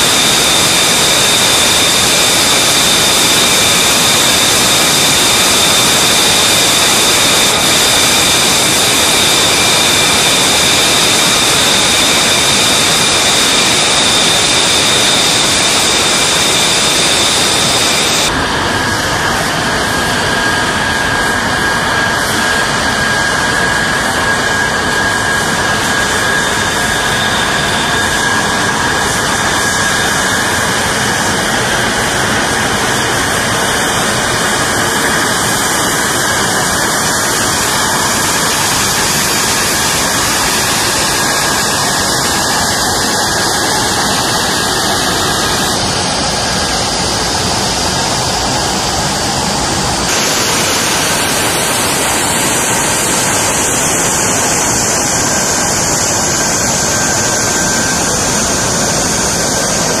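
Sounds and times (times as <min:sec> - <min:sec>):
jet engines roaring: 0:00.0 - 1:00.0.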